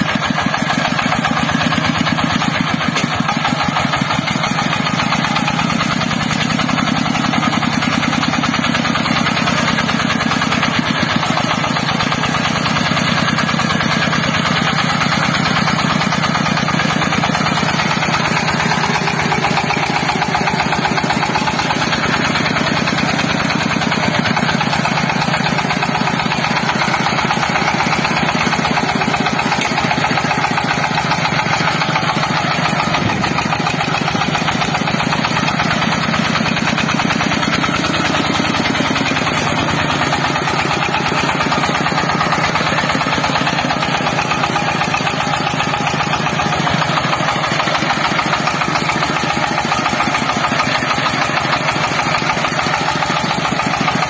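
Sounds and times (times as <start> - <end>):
tractor diesel engine chugging: 0.0 - 54.0.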